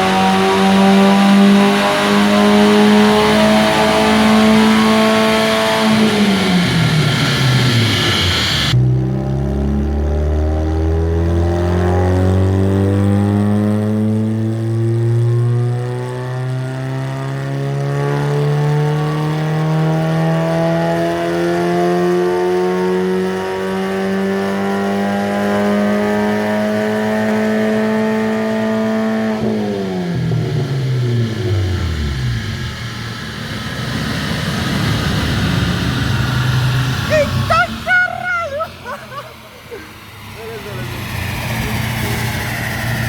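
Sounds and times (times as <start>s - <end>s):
car engine revving at full throttle: 0.0s - 43.0s.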